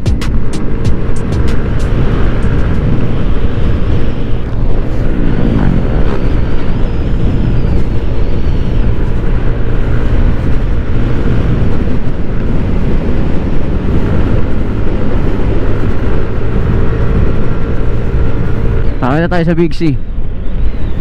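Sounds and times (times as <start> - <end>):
scooter engine running: 0.0 - 19.1
motorcycle passing by: 0.0 - 19.4
wind noise on microphone: 0.0 - 21.0.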